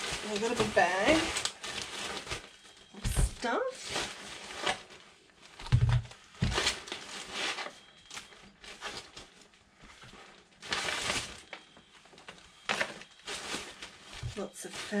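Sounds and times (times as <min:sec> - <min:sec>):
plastic crinkling and rustling: 0:00.0 - 0:15.0.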